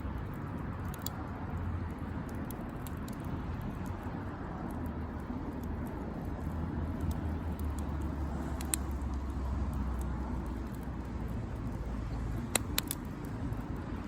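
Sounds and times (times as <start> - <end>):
campfire crackling: 0.0 - 14.0
sharp pops of fire: 0.0 - 14.0.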